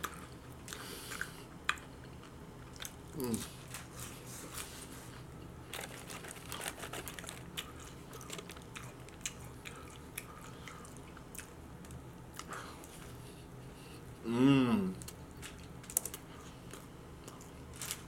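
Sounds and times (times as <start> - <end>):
chewing and smacking food: 0.0 - 4.2, 5.1 - 13.2, 15.0 - 18.0.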